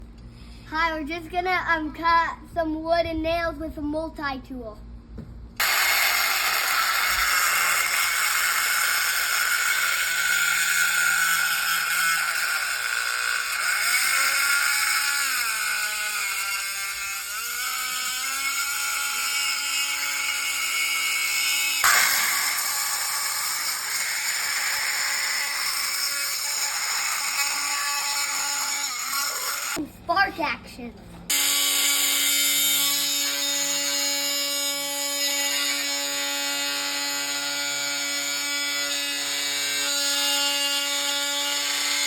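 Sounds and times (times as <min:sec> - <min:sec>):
oscillating multi-tool cutting nail: 0:05.6 - 0:29.8, 0:31.3 - 0:42.0.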